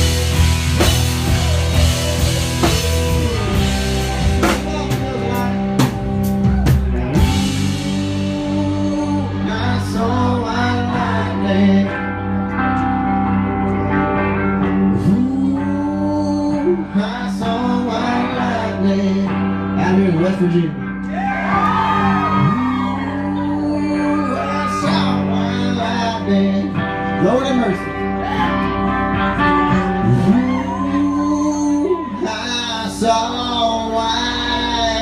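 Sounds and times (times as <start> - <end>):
country rock band playing: 0.0 - 35.0
electric guitar with sliding bends: 0.0 - 35.0.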